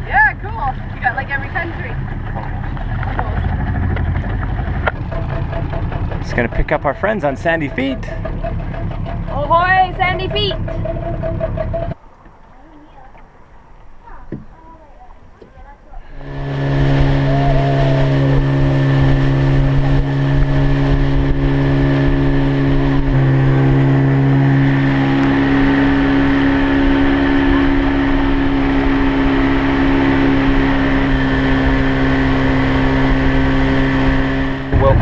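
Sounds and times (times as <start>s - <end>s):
outboard motor running: 0.0s - 12.0s, 15.4s - 35.0s.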